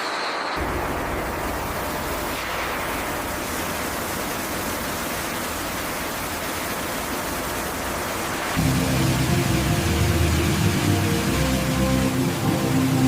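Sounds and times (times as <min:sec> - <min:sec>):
loud rushing hiss: 0:00.0 - 0:13.0.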